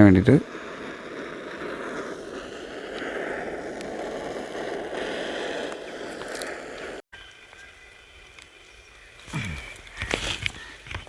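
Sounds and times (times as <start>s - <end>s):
heater rushing hiss: 0.0s - 10.7s.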